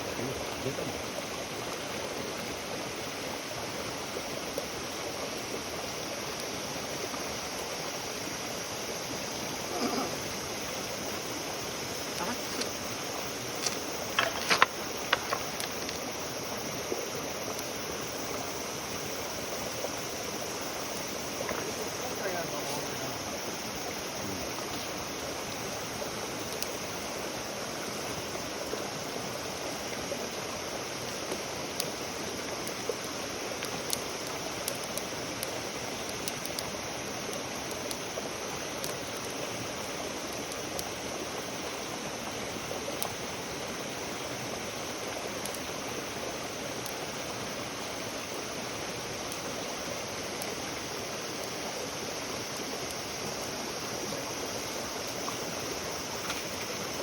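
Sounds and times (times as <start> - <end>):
steady rushing hiss: 0.0 - 57.0
faint crackles: 9.3 - 30.2, 30.8 - 57.0.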